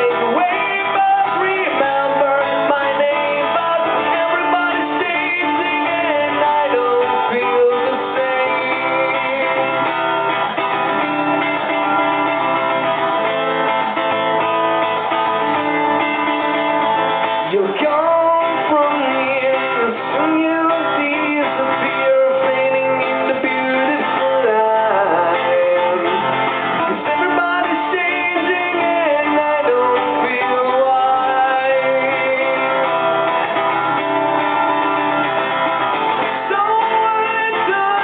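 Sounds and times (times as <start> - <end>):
person singing: 0.0 - 13.3, 15.0 - 38.0
strummed guitar: 0.0 - 38.0.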